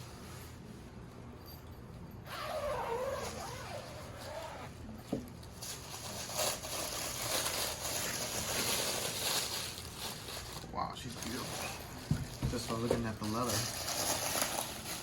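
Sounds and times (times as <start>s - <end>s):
packaging rustling and scraping: 2.3s - 15.0s.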